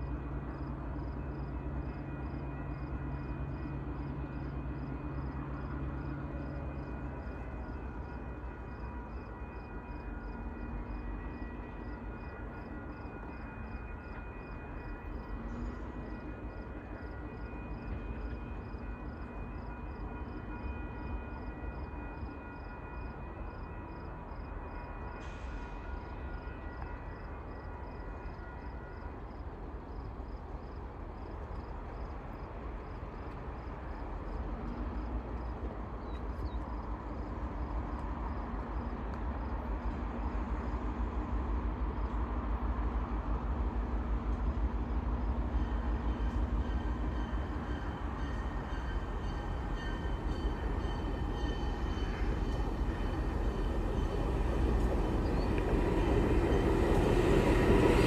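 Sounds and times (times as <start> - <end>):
rail car rumbling: 0.0 - 58.0.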